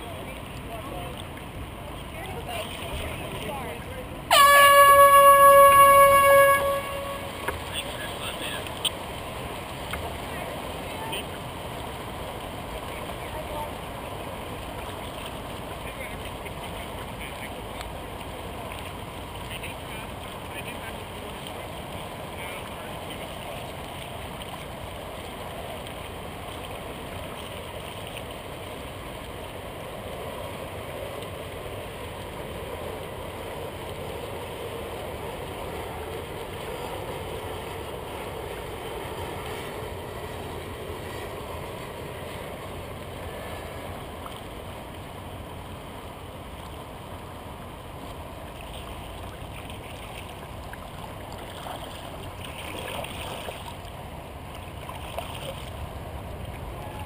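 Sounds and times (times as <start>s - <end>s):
river water lapping against hull: 0.0s - 57.0s.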